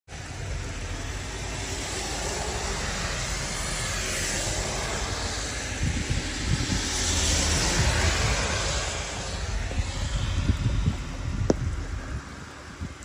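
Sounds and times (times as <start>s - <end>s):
car tyres hissing on wet road: 0.1s - 13.0s.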